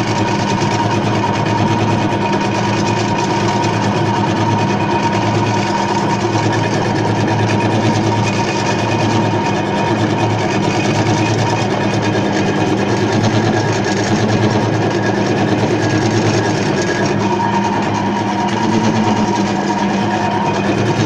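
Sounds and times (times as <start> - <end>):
lathe mechanical rattle: 0.0 - 21.0
lathe motor humming: 0.0 - 21.0.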